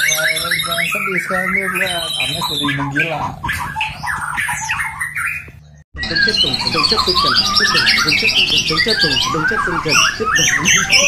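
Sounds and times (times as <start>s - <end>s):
songbird trilling and whistling: 0.0s - 11.0s.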